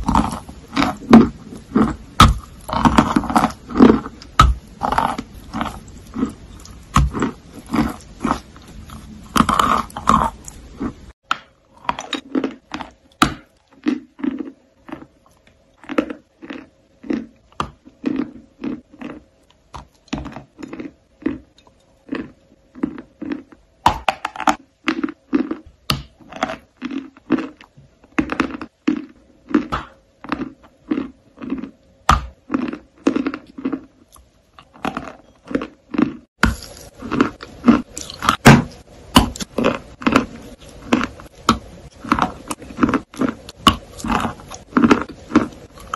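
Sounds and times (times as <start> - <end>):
chewing crisp crunches: 0.0 - 45.9.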